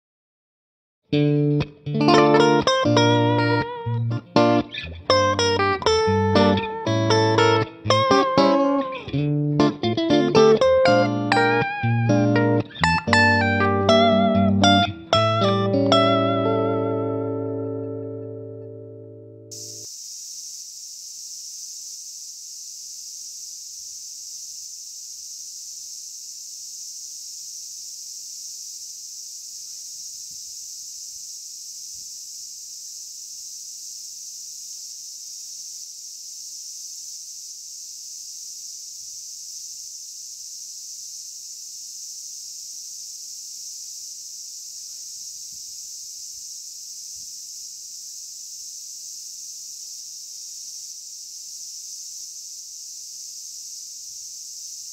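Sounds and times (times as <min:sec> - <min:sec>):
high-pitched insect drone: 0:02.0 - 0:54.9.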